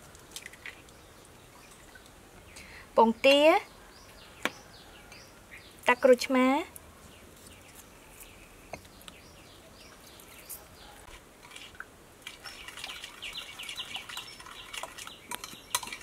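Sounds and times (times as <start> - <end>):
birds chirping faintly: 0.4 - 16.0.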